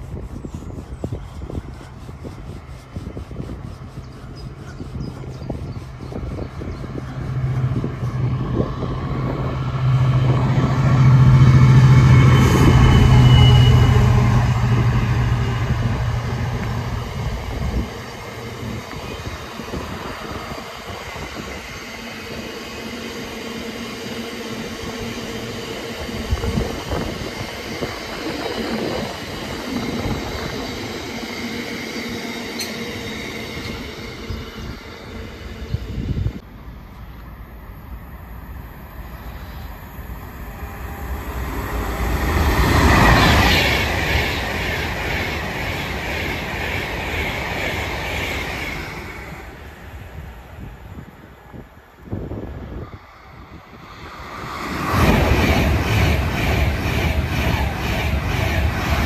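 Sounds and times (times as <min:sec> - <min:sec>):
locomotive engine hum: 0:00.2 - 0:59.0.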